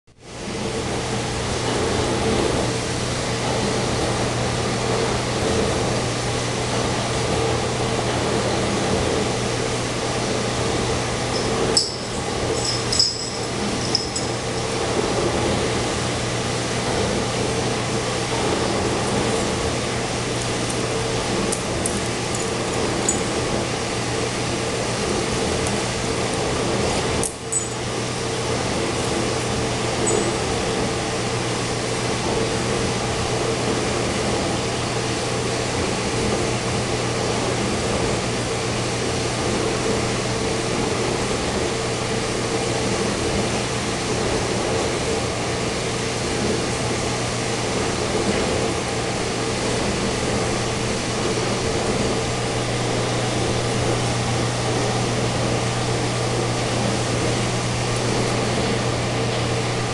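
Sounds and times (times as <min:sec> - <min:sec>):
aquarium pumps and circulating water: 0:00.1 - 0:59.9.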